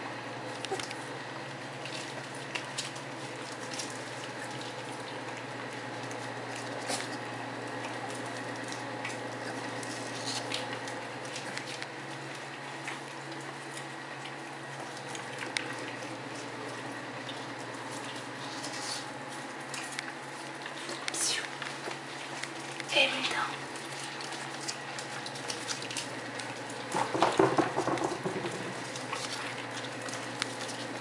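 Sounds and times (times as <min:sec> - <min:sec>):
puppies chewing and lapping: 0:00.0 - 0:31.0.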